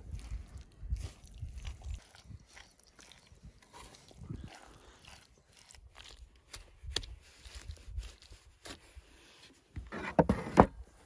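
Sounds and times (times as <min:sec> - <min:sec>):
spoon scraping and squishing: 0:00.1 - 0:09.6.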